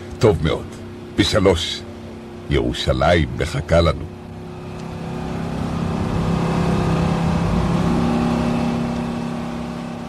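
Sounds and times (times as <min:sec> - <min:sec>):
bus engine hum: 0:00.0 - 0:10.0.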